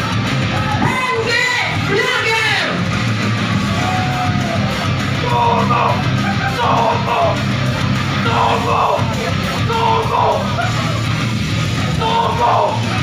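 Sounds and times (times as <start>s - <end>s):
rock music over speakers: 0.0s - 13.0s.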